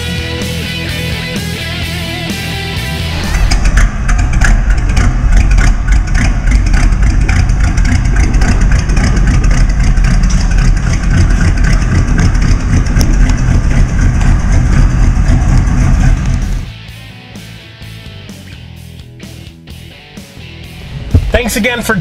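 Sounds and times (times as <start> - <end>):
engine idling loud and deep: 0.0 - 22.0.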